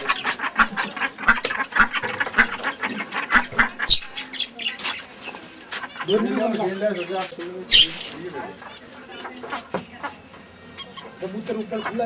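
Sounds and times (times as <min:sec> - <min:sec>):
birds squawking: 0:00.0 - 0:12.0.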